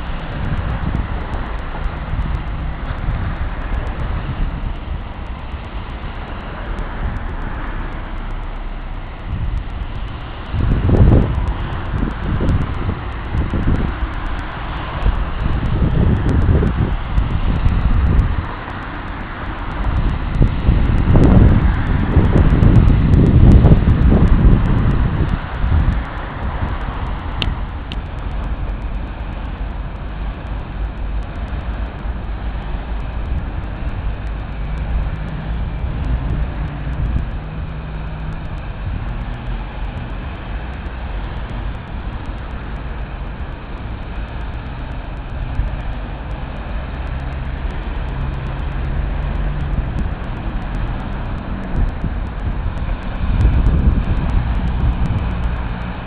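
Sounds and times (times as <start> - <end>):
engine hum: 0.0 - 56.0
traffic on wet road: 0.0 - 56.0.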